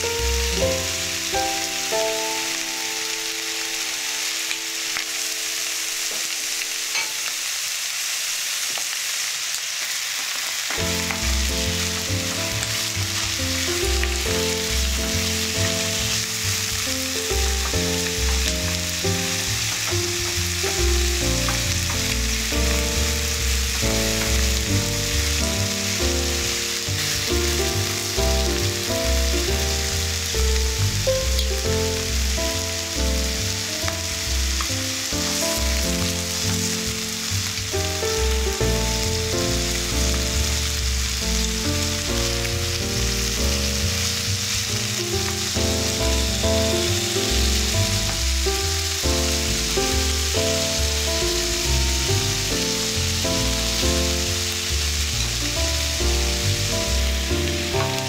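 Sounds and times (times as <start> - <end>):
background music: 0.0 - 7.0, 10.8 - 58.0
food sizzling in a frying pan: 0.0 - 58.0.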